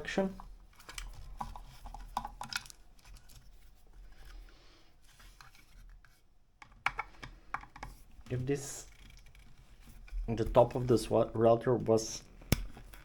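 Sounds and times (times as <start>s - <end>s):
plastic parts clicking and rubbing: 0.2s - 11.3s, 11.9s - 13.0s.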